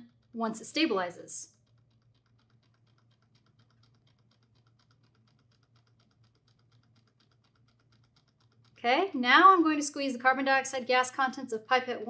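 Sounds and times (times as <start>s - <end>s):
fast even ticking: 0.0s - 12.0s.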